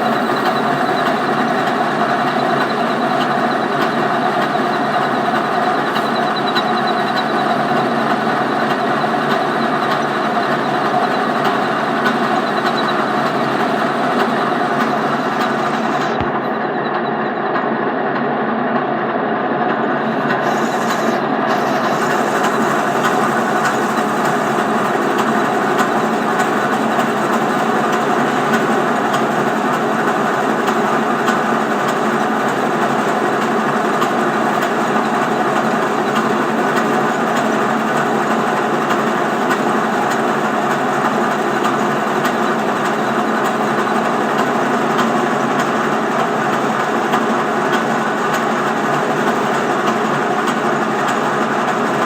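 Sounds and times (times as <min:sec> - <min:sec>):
lathe cutting metal: 0:00.0 - 0:16.6, 0:19.9 - 0:52.0.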